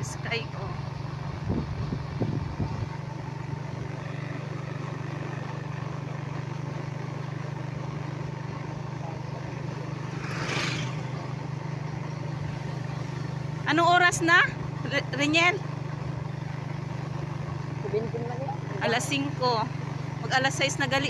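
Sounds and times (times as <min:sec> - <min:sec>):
road and wind noise: 0:00.0 - 0:21.0
vehicle engine hum: 0:00.0 - 0:21.0.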